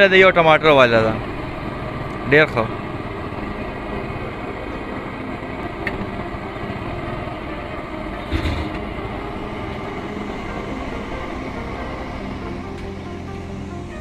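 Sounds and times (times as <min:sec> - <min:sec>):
engine rumble idling: 0:00.0 - 0:14.0.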